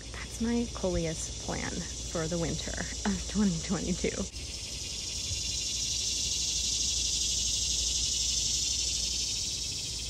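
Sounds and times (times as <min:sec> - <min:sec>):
insect chorus buzzing: 0:00.0 - 0:10.0.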